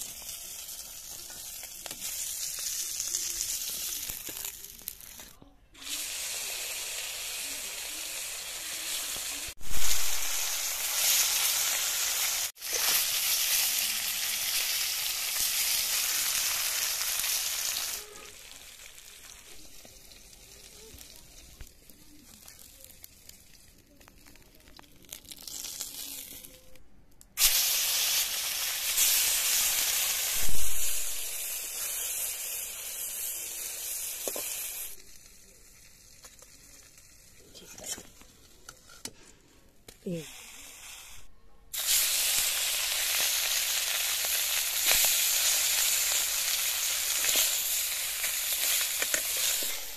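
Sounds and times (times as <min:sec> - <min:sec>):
fish sizzling in hot oil: 0:00.0 - 0:26.8, 0:27.4 - 0:38.2, 0:40.0 - 0:49.9.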